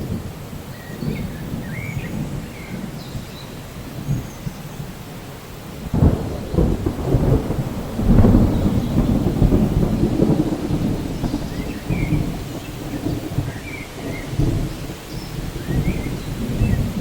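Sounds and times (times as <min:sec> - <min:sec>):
rumbling thunder: 0:00.0 - 0:17.0
steady rain: 0:00.0 - 0:17.0.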